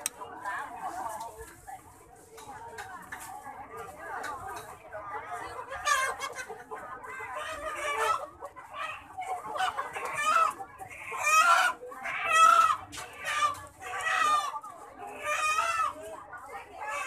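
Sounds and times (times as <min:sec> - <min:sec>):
chickens clucking and squawking: 0:00.0 - 0:17.0.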